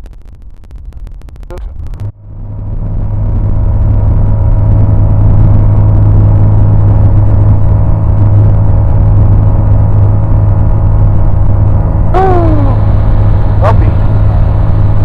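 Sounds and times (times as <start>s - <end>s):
propeller aircraft engine drone: 1.0s - 15.0s.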